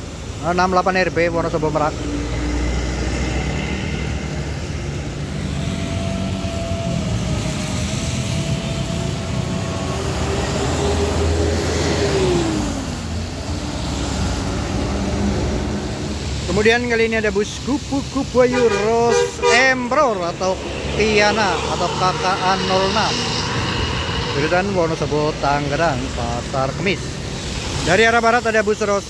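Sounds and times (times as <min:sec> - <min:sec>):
diesel engine rumble: 0:00.0 - 0:29.0
road traffic: 0:00.0 - 0:29.0.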